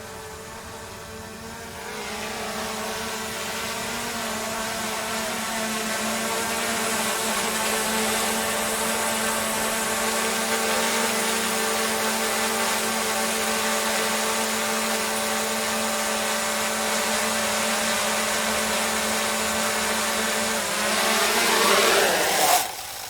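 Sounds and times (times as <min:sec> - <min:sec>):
electric motor hum: 0:00.0 - 0:23.0.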